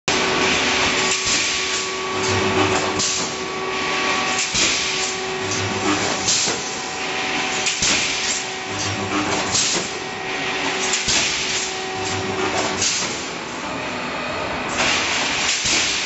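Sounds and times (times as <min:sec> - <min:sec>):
welding machine running: 0:00.1 - 0:16.0.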